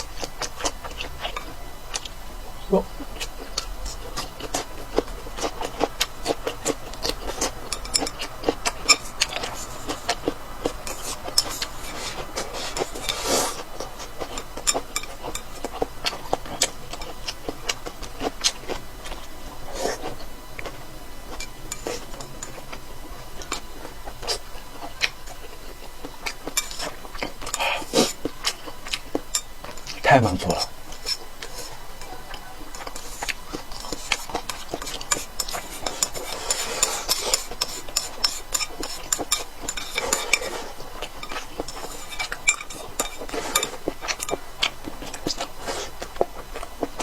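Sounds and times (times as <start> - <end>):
person chewing food: 0.0 - 47.0.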